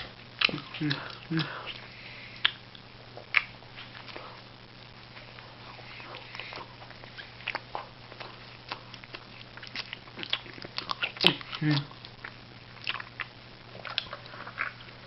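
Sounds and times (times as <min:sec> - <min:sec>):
mouth clicks and smacks: 0:00.0 - 0:04.5, 0:05.3 - 0:15.0
person chewing food: 0:00.0 - 0:15.0.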